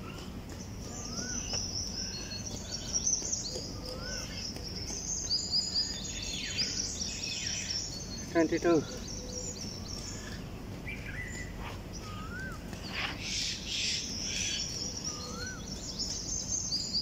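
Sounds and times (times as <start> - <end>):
small birds chirping: 0.0 - 17.0
steady background noise: 0.0 - 17.0.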